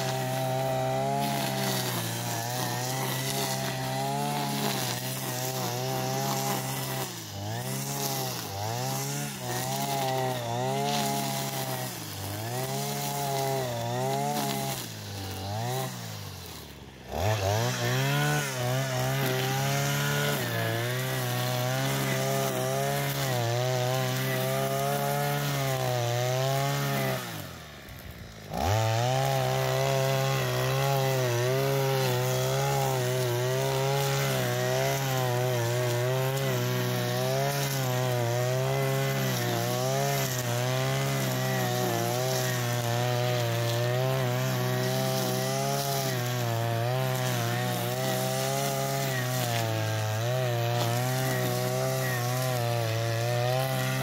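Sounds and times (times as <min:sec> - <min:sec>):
brushcutter engine revving: 0:00.0 - 0:54.0.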